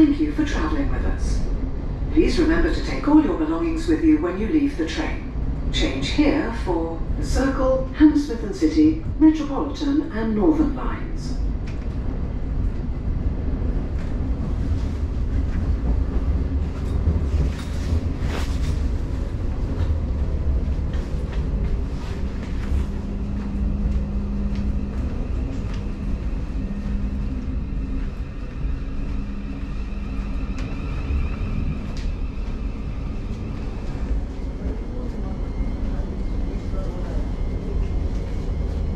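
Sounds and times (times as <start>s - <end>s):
low hum: 0.0s - 38.9s
train rumble inside carriage: 0.0s - 38.9s.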